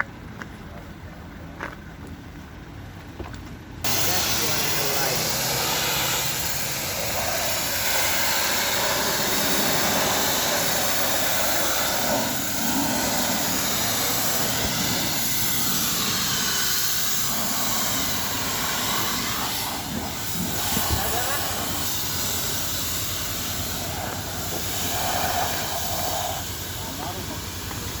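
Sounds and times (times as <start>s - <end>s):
pressure washer hissing: 3.8s - 28.0s.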